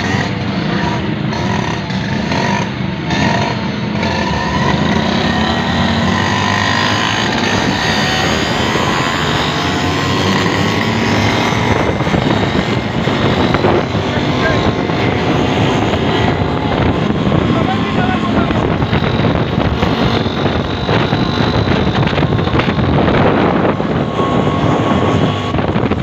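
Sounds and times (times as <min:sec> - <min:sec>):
rickshaw engines accelerating: 0:00.0 - 0:26.0.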